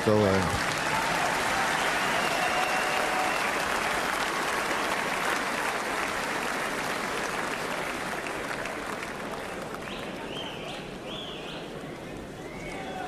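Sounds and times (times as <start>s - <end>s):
large crowd applauding: 0.0s - 10.8s.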